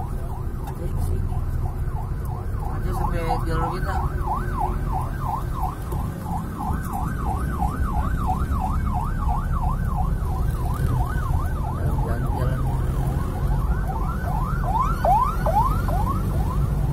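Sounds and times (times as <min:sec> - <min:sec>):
low rumble of car and traffic: 0:00.0 - 0:16.9
siren yelping: 0:00.0 - 0:16.9.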